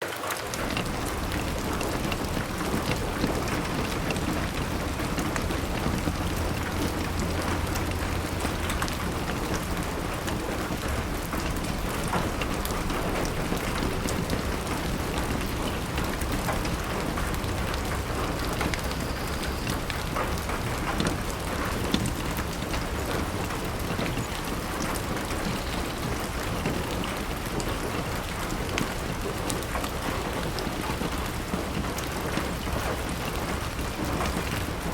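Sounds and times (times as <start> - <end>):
heavy rain on glass window: 0.0 - 34.9.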